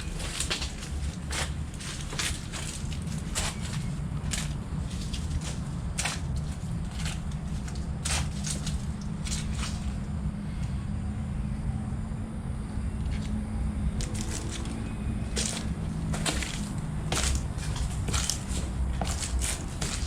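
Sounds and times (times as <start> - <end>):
footsteps on debris: 0.0 - 10.1, 14.0 - 20.0
steady low rumble: 0.0 - 20.0.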